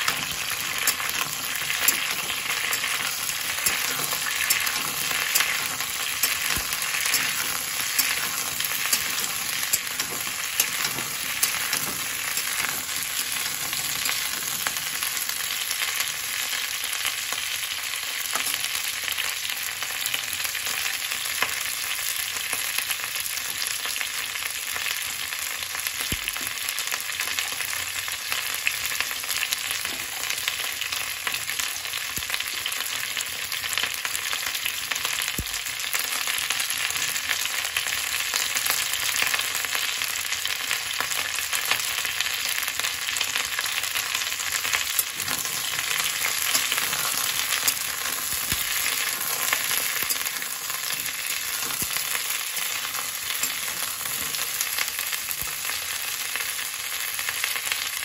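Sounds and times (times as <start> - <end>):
vegetables frying in hot oil: 0.0 - 58.0.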